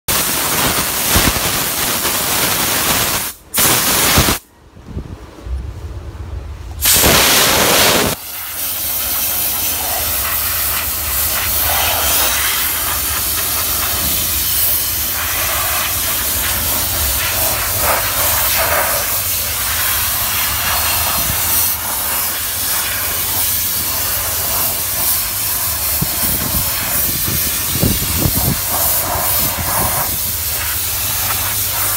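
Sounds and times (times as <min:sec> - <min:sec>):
steam cleaner hissing: 0:00.1 - 0:04.4, 0:06.8 - 0:31.9.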